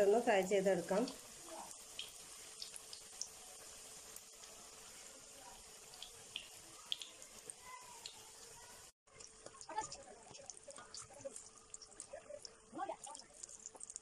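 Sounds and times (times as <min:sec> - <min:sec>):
food deep-frying in oil: 0:00.0 - 0:14.0
oil popping and crackling: 0:00.0 - 0:14.0.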